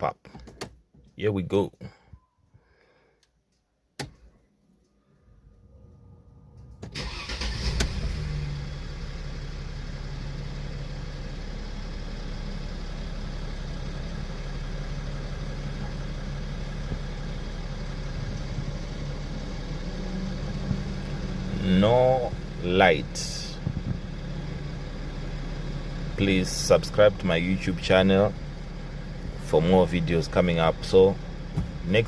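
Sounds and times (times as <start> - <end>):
car engine starting and idling: 4.0 - 32.0.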